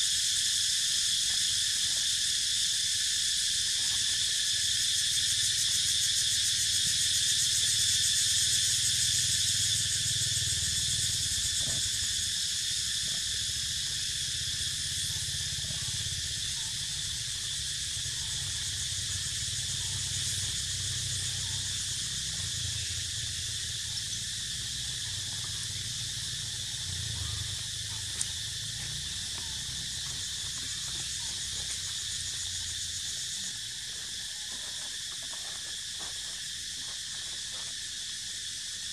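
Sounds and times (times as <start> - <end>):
insect chorus buzzing: 0.0 - 38.9.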